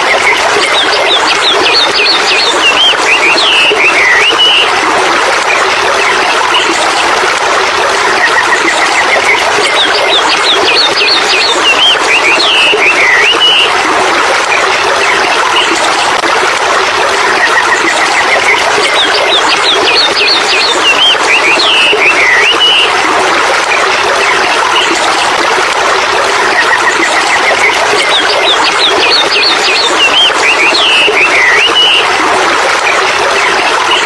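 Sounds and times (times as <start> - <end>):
rushing running water: 0.0 - 34.0.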